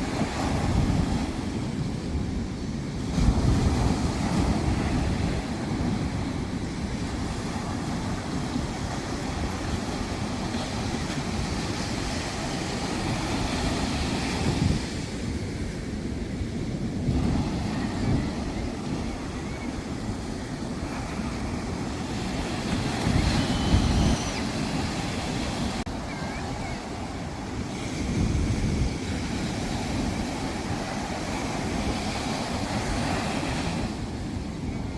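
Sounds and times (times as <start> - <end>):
sea waves washing onto beach: 0.0 - 34.9
wind rumbling on microphone: 0.0 - 34.9.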